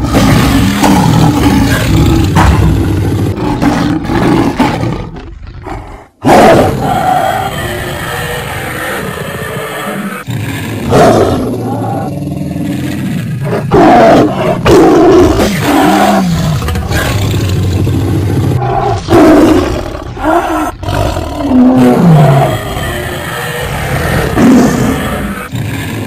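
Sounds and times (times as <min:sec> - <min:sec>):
roaring screams: 0:00.0 - 0:05.2, 0:06.2 - 0:26.0
cartoon lion roars: 0:00.0 - 0:26.0.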